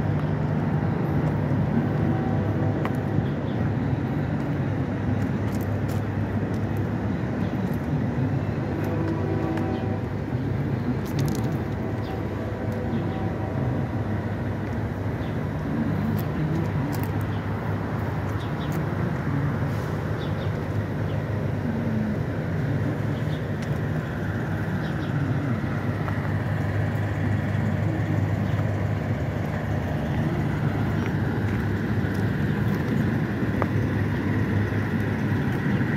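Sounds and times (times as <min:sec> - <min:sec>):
low mechanical drone: 0:00.0 - 0:35.9.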